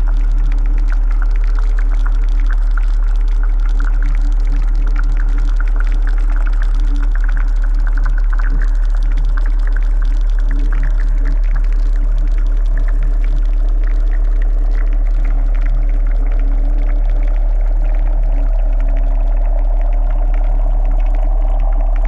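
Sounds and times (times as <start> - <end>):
deep drone: 0.0 - 22.0
wet crackling gurgling: 0.0 - 22.0.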